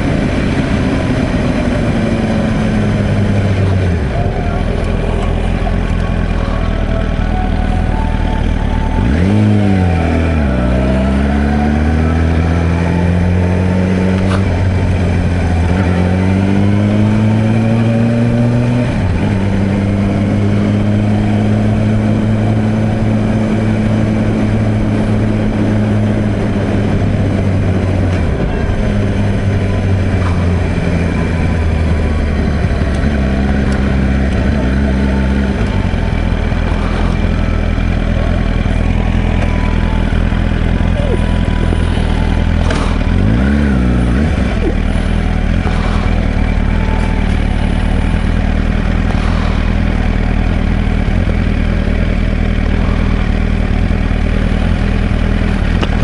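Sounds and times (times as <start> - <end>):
motorcycle engine revving through gears: 0.0 - 56.0.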